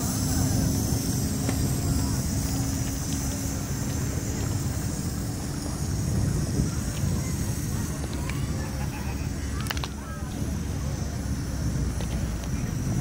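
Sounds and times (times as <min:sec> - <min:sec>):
faint distant voices: 0:00.0 - 0:13.0
high hiss: 0:00.0 - 0:13.0
low rumble of engines: 0:00.0 - 0:13.0
steady hum: 0:00.0 - 0:13.0.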